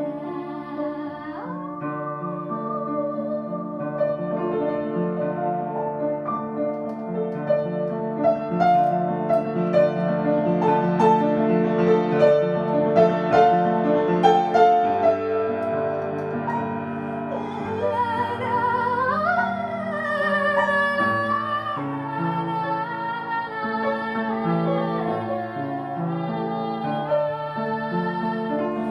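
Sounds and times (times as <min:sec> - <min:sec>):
held melody with wide vibrato: 0:00.0 - 0:06.6, 0:07.7 - 0:28.9
slow gentle piano piece: 0:00.0 - 0:28.9.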